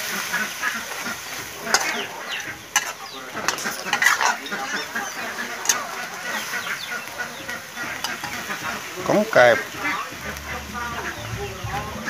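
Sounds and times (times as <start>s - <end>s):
spatula scraping a wok: 0.0s - 12.0s.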